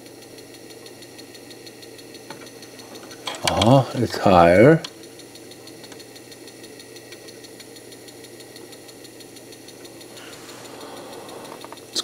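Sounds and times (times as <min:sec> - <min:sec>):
cd mechanism humming and ticking: 0:00.0 - 0:12.0.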